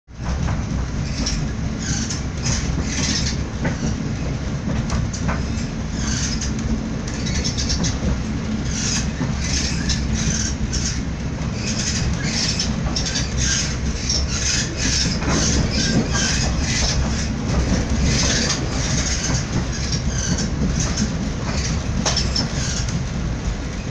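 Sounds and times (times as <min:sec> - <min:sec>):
train wheels rumbling on rails: 0:00.1 - 0:23.9.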